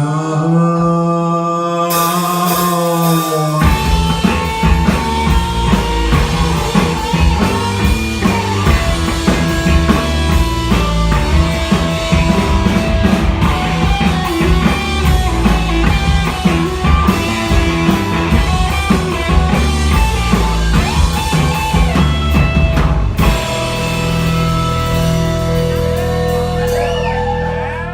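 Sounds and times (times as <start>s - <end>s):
drum kit: 1.9s - 27.9s
guitars playing chords: 3.6s - 27.9s.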